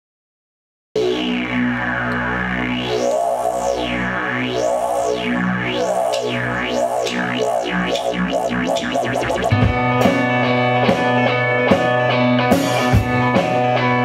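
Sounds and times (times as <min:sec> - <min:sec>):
synthesizer chord with filter sweeps: 0:01.0 - 0:14.0.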